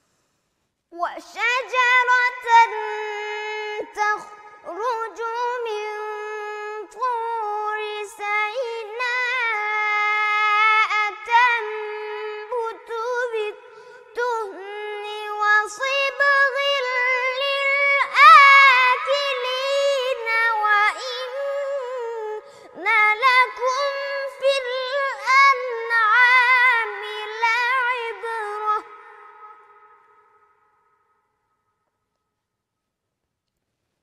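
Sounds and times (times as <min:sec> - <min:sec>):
boy chanting recitation: 0:00.9 - 0:29.8.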